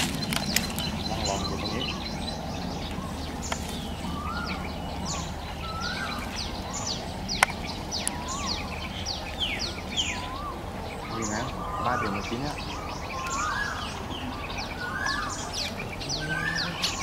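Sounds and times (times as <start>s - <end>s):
high sweeping bird calls: 0.0s - 17.0s
low background hum: 0.0s - 17.0s
lower rising and falling bird notes: 0.0s - 17.0s.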